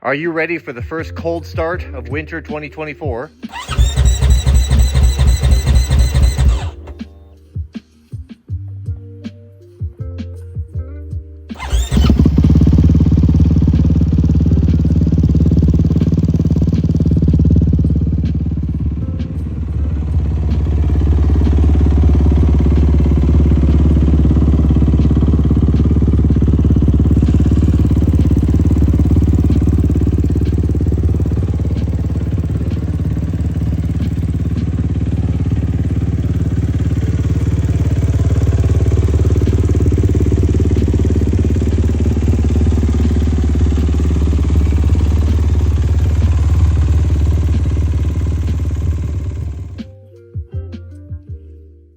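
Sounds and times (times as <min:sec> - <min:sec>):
engine idling: 0:03.4 - 0:07.2, 0:11.6 - 0:49.9.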